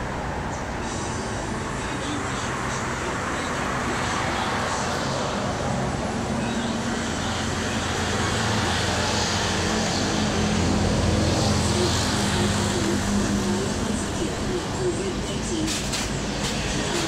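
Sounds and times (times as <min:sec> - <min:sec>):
engine hum: 0:00.0 - 0:17.0
road noise: 0:00.0 - 0:17.0.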